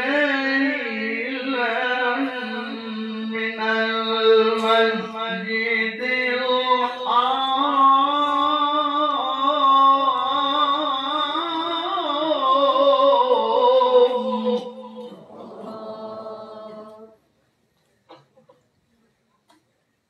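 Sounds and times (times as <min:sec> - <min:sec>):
man reciting in melodic chant: 0:00.0 - 0:17.1.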